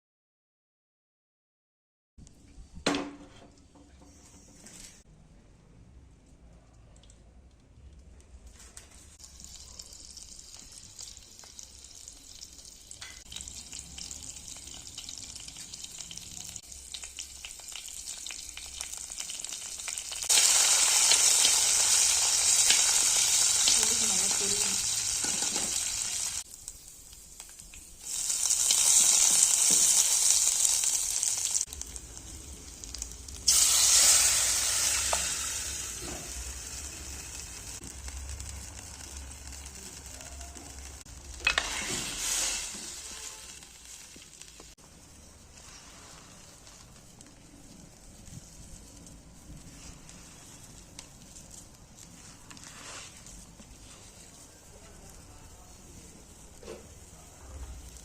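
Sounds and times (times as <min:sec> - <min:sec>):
food sizzling in a hot pan: 0:09.2 - 0:58.0.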